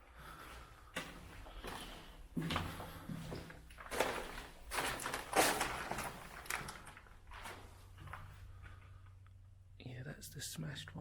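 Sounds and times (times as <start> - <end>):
footsteps in a tunnel: 0.0 - 9.3.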